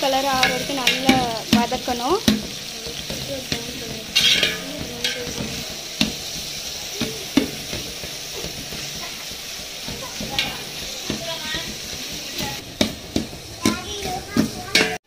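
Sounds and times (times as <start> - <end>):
onions sizzling in oil: 0.0 - 15.0
metal ladle scraping a pot: 0.1 - 15.0.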